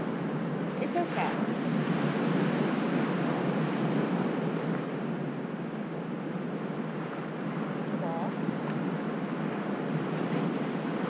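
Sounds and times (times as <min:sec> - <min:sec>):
ocean surf breaking: 0:00.0 - 0:06.2, 0:06.8 - 0:11.0.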